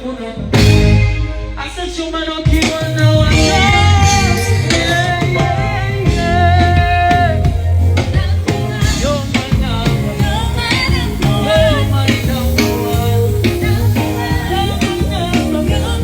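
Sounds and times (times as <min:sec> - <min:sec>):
song with sung vocal: 0:00.0 - 0:16.0.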